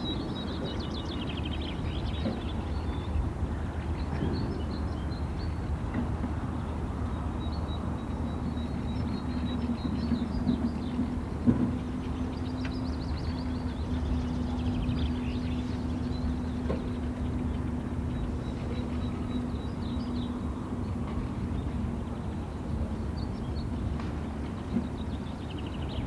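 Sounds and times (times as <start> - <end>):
constant hum: 0.0 - 26.0.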